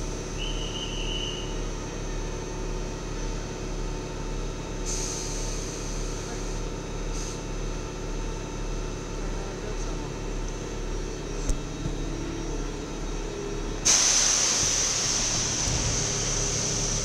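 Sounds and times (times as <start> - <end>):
electric locomotive hum and whine: 0.0 - 17.0.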